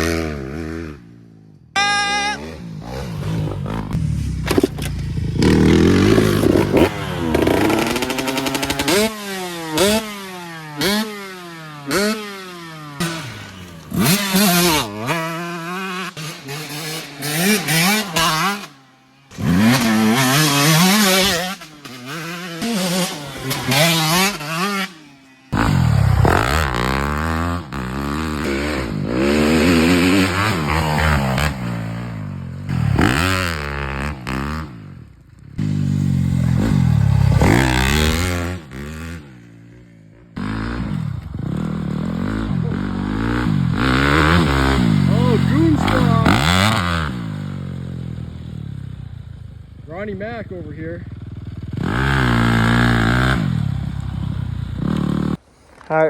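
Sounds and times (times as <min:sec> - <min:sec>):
dirt bike engine revving: 0:00.0 - 0:55.8.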